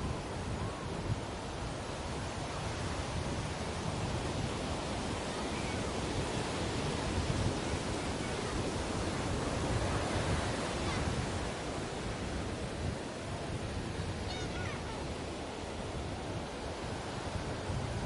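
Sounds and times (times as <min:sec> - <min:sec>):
sea waves washing onto beach: 0:00.0 - 0:18.0.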